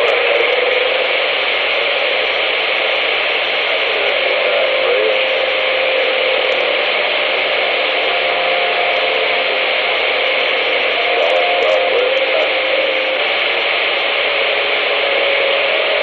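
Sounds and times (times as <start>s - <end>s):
radio static hiss: 0.0s - 16.0s
faint wavering whistles: 2.2s - 16.0s.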